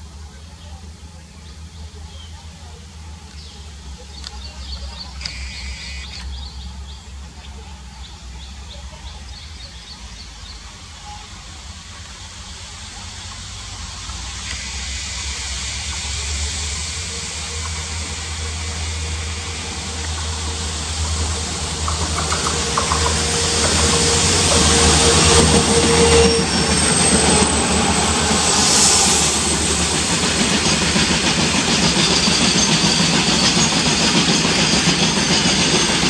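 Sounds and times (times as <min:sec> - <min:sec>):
thin steady whine: 0:00.0 - 0:08.7, 0:09.6 - 0:33.8
locomotive engine rumble: 0:00.0 - 0:36.0
wheels rushing on rail: 0:00.0 - 0:36.0.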